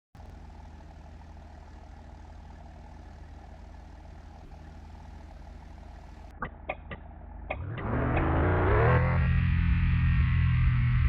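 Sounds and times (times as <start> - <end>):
heavy truck engine running: 0.2 - 11.0.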